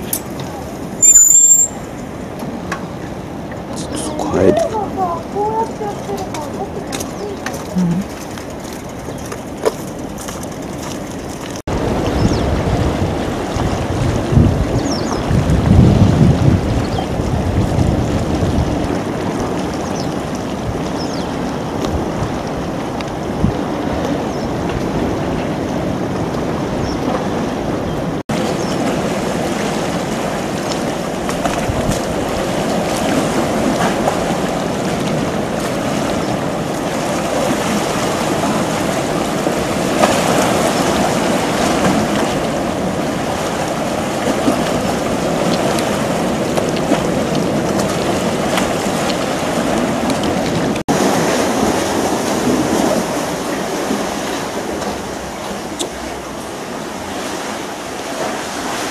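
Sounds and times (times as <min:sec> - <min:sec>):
sea surf against breakwater: 0:00.0 - 0:58.9
wind on microphone: 0:00.0 - 0:58.9.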